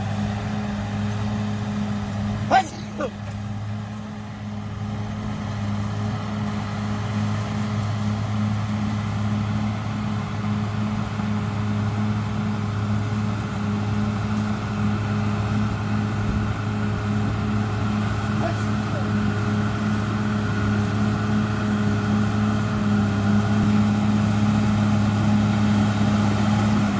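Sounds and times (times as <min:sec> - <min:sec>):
bulldozer diesel engine drone: 0:00.0 - 0:26.9.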